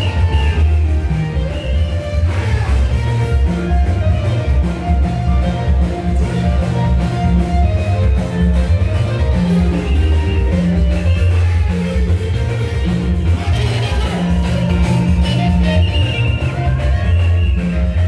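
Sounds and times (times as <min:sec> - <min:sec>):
instrumental music with bass and guitar: 0:00.0 - 0:18.0.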